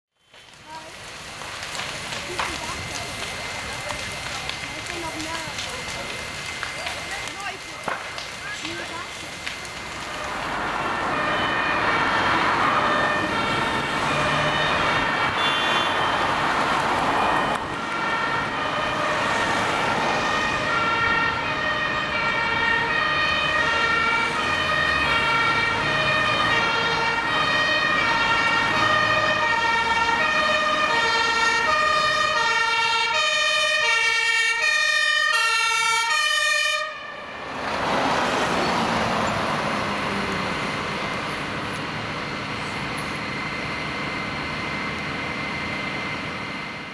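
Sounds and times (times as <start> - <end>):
fire engine driving past: 0.1 - 46.9
two-tone fire engine siren: 0.2 - 46.9.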